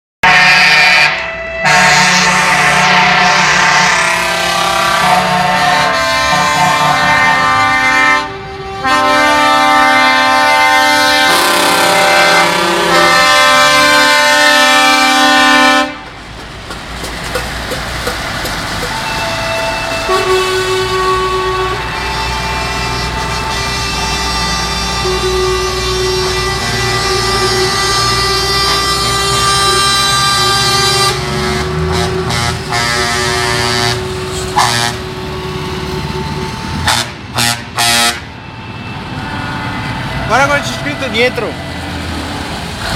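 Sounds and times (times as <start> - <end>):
truck air horns: 0.2 - 16.2, 18.8 - 41.7
truck engines rumbling: 0.2 - 42.9.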